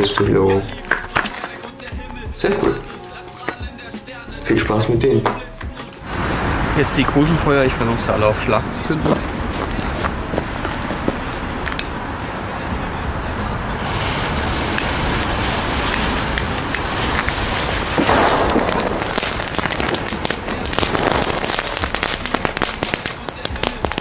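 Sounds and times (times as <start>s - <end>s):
fireworks hissing and crackling: 0.0s - 4.6s, 5.5s - 24.0s.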